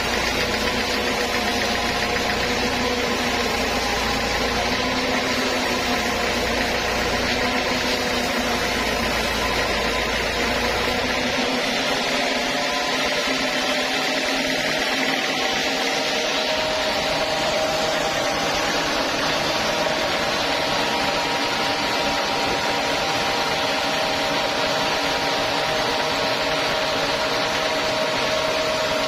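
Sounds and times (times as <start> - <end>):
band saw cutting wood: 0.0 - 29.0.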